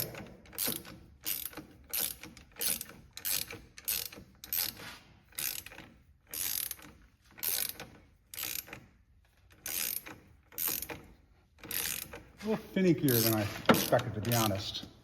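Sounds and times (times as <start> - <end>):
ratchet wrench clicking: 0.0 - 12.4, 13.1 - 14.6.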